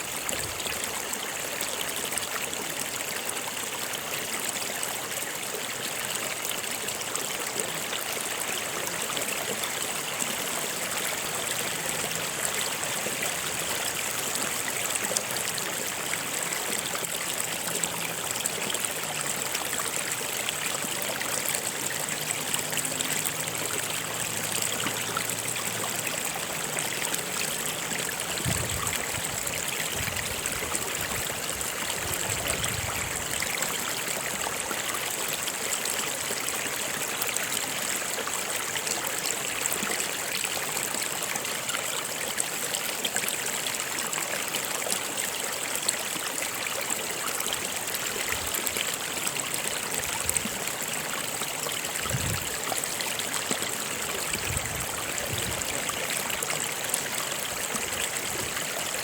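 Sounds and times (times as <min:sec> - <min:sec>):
water flowing over rocks: 0:00.0 - 0:59.0.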